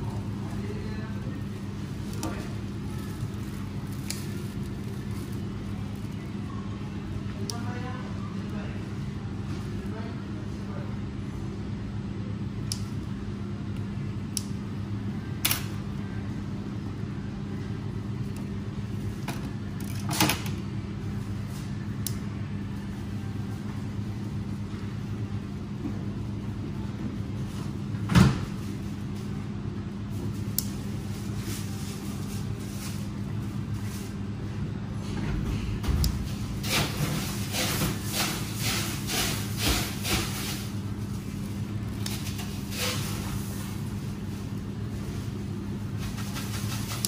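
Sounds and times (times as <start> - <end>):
low background hum: 0.0 - 47.0.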